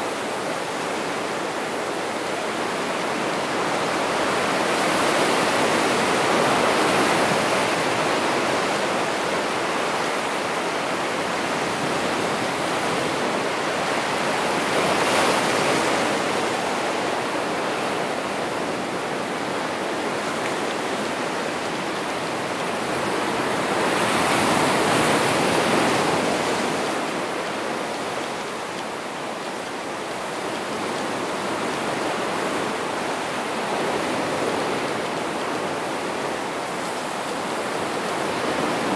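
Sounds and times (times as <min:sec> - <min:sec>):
surf washing over rocks: 0:00.0 - 0:38.9.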